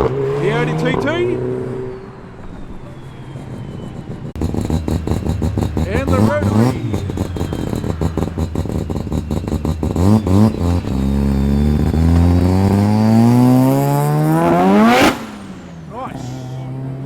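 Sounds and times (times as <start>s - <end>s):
rotary car engine accelerating: 0.0s - 17.0s.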